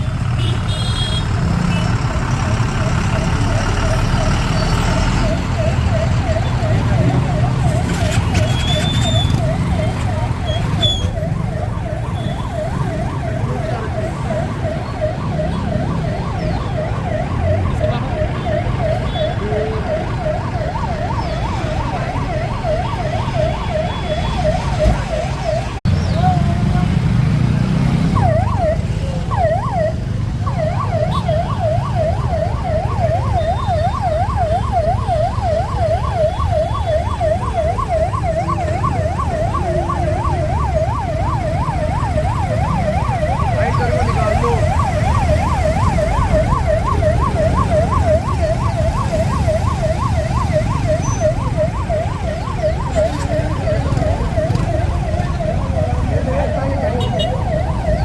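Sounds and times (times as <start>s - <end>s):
siren yelping: 1.0s - 26.9s, 27.7s - 58.0s.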